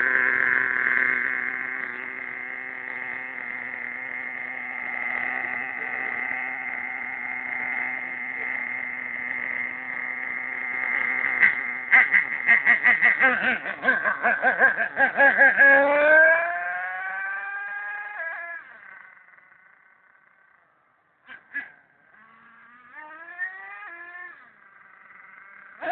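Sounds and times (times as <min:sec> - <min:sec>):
rc nitro engine droning: 0:00.0 - 0:25.9.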